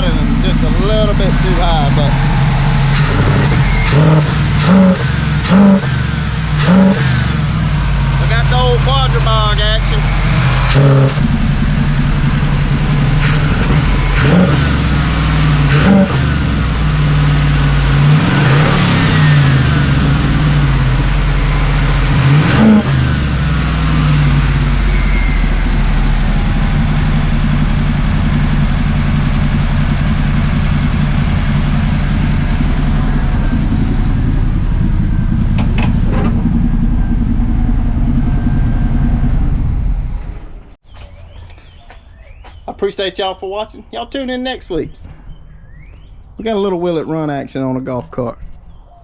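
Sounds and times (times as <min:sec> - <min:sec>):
car engine revving: 0:00.0 - 0:40.8
car engine idling: 0:00.0 - 0:40.9.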